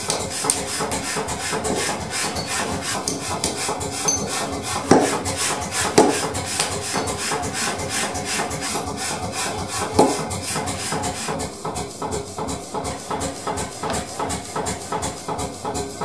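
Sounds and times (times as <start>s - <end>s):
file rasping on steel: 0.0s - 16.0s.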